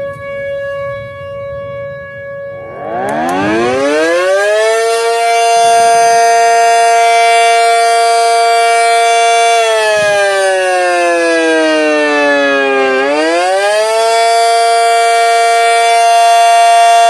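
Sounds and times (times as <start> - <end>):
mechanical siren wailing: 0.0 - 17.0.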